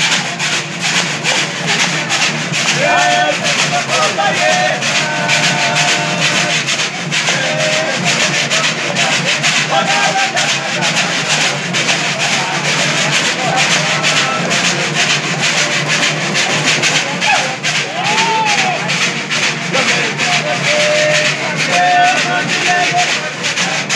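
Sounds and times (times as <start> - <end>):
bamboo scraper rhythm: 0.0 - 23.9
lutes strumming: 0.0 - 23.9
voices: 0.0 - 23.9.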